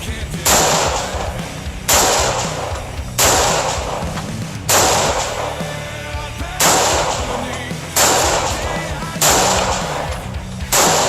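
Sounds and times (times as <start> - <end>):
rock song with steady beat: 0.0 - 11.0
rifle shots: 0.5 - 5.6, 6.6 - 11.0.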